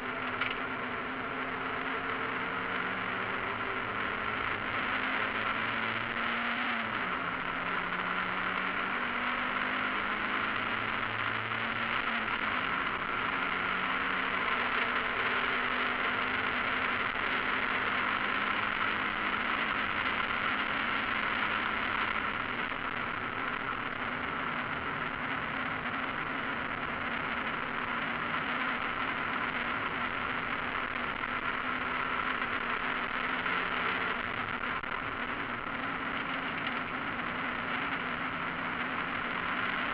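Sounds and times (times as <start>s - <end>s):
race car engine under load: 0.0s - 39.9s
wind and road noise: 0.0s - 39.9s.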